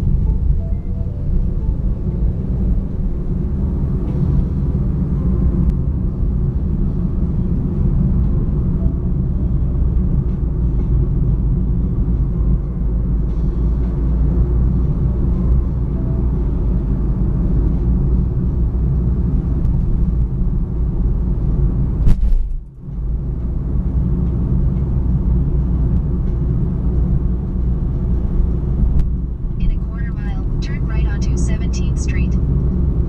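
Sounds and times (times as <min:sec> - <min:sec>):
car interior road rumble: 0:00.0 - 0:33.0.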